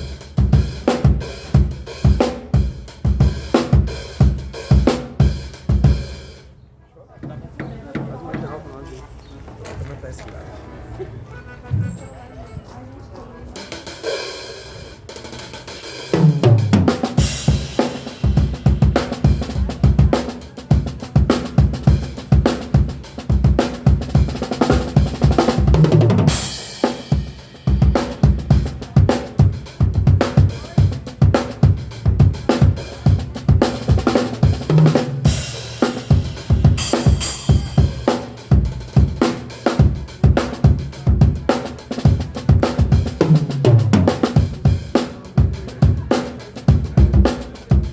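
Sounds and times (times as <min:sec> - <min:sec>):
drum kit groove: 0:00.0 - 0:06.5, 0:13.5 - 0:47.9.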